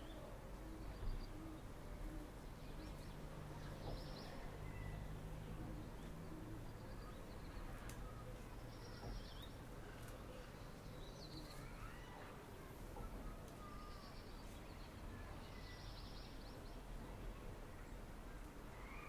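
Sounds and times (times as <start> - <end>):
distant traffic rumble: 0.0 - 19.0
songbirds chirping: 0.0 - 19.0.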